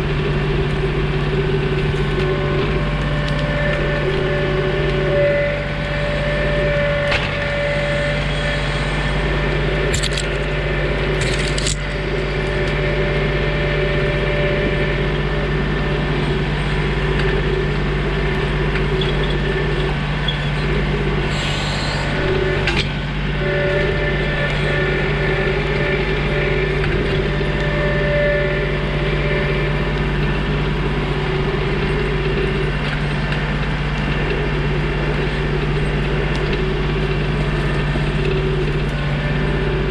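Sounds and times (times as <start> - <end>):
high tone over engine: 0.0 - 39.9
tractor diesel engine running: 0.0 - 39.9.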